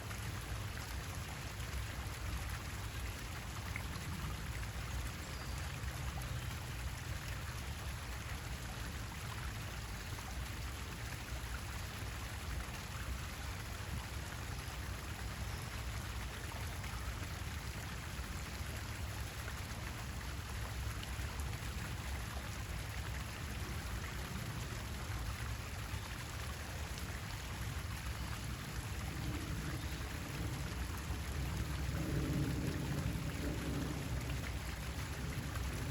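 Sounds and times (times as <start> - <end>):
steady water noise: 0.0 - 35.9.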